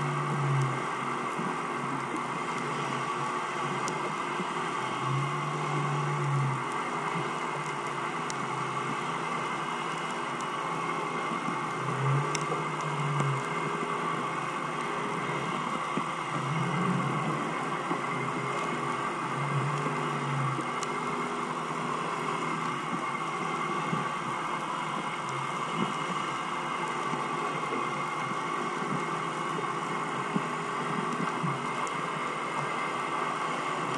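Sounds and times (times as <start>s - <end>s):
boat engine heard underwater: 0.0s - 33.9s.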